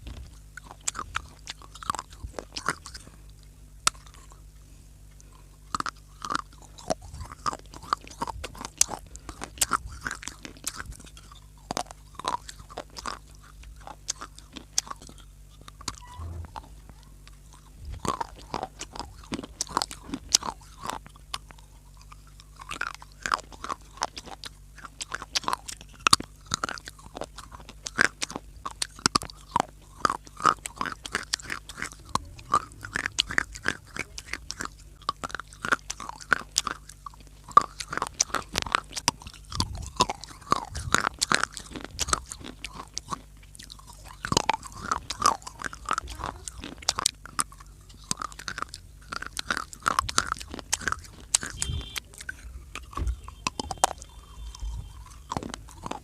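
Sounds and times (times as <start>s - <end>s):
chewing crunchy clay: 0.0s - 56.0s.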